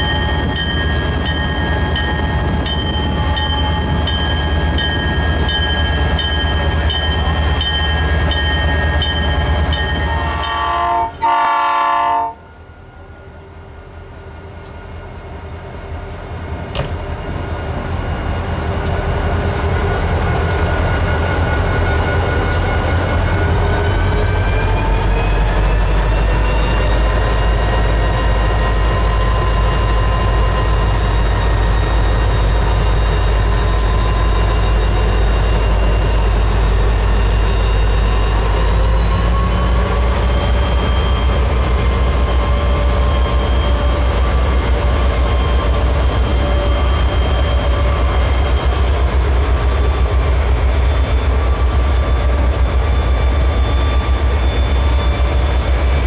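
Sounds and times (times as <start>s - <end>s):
diesel locomotive engine rumble: 0.0s - 56.0s.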